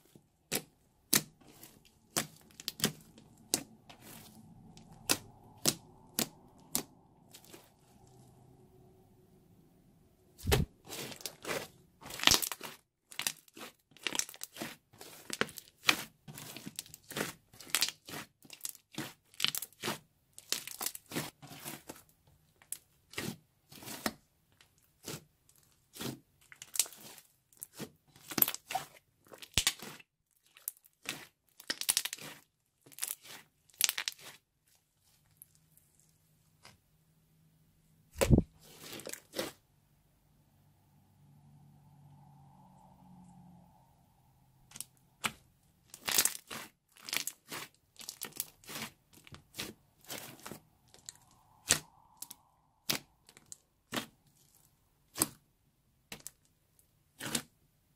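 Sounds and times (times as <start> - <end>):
slime crackling and squelching: 0.0 - 8.6, 10.4 - 36.8, 38.2 - 39.6, 44.6 - 57.6.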